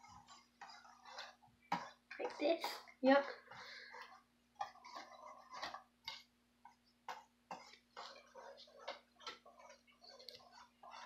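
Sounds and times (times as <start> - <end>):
wet sloshing of egg mixture: 0.0 - 11.0.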